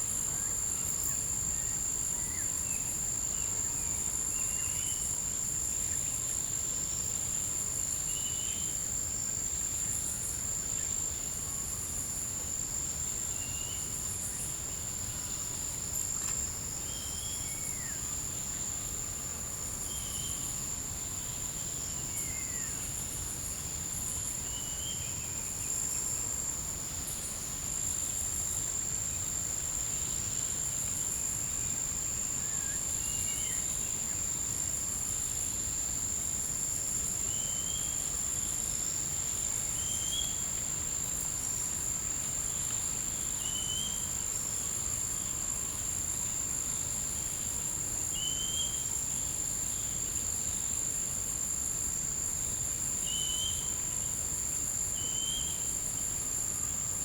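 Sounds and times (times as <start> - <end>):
insect trill: 0.0 - 57.0
pulsing insect hiss: 0.0 - 57.0.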